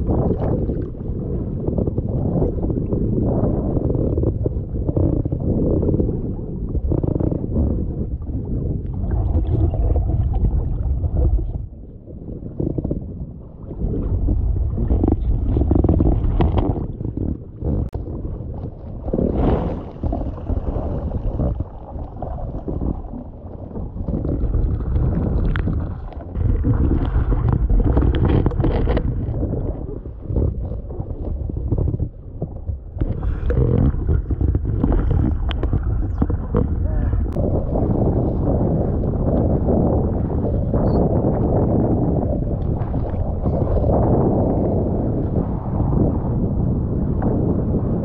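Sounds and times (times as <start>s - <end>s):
sea water sloshing and splashing: 0.0s - 46.4s
wind buffeting microphone: 0.0s - 48.0s.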